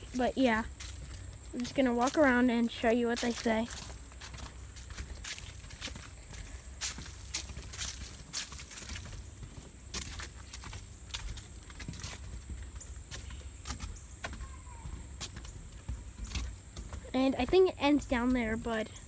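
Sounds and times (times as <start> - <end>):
footsteps on a path: 0.0 - 19.0.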